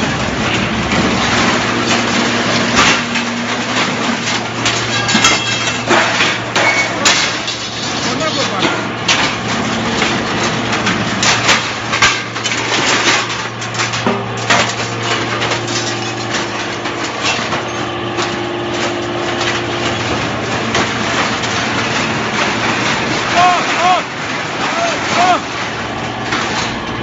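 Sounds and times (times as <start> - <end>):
hydraulic power unit humming: 0.0 - 27.0
metal scrap clanking: 0.0 - 27.0.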